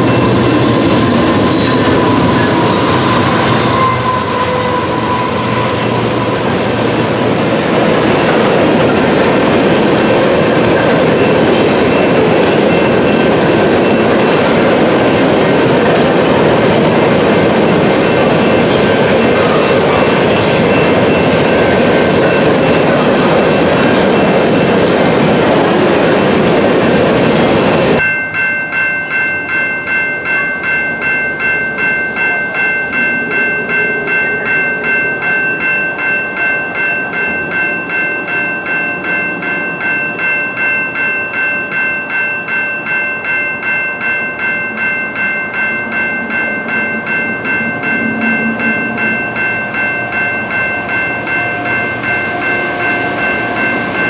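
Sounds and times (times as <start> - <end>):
crossing warning bell ringing: 0.0 - 54.0
train passing loudly: 0.0 - 54.0.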